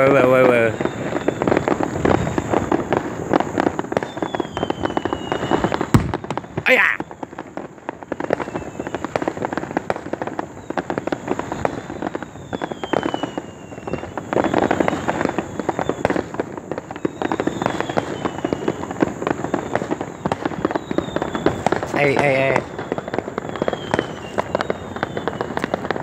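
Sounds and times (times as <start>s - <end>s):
fireworks crackling: 0.0s - 26.0s
fireworks whistling downward: 0.0s - 26.0s.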